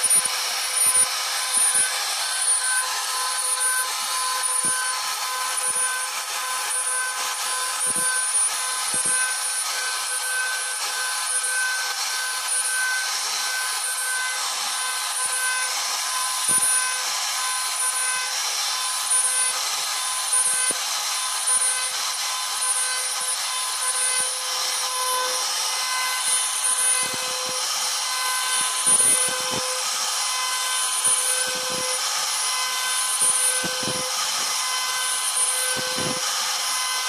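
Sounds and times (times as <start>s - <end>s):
cnc router spindle whine: 0.0s - 37.0s
router bit cutting wood hiss: 0.0s - 37.0s.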